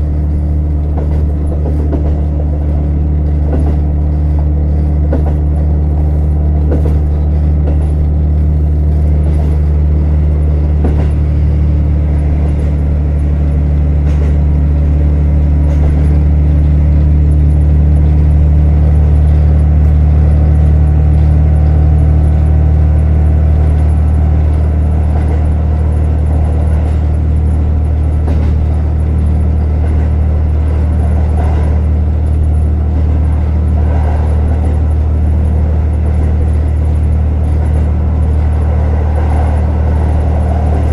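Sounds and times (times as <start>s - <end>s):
diesel railcar engine drone: 0.0s - 40.9s.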